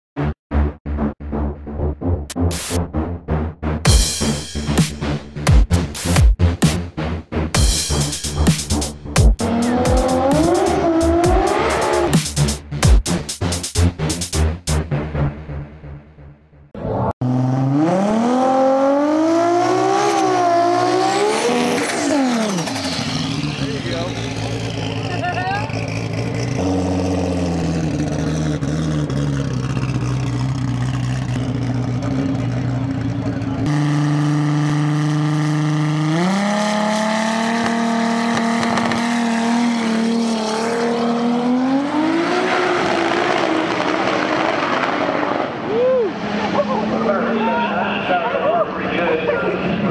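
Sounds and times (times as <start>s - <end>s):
turbo engine revving: 0.2s - 48.2s.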